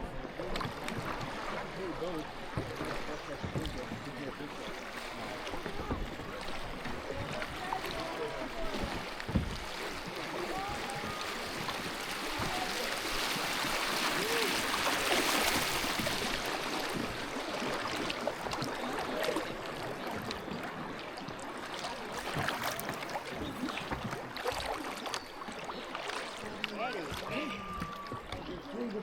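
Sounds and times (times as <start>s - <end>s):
paddle splashes and gurgles: 0.0s - 29.0s
water rushing: 0.0s - 29.0s.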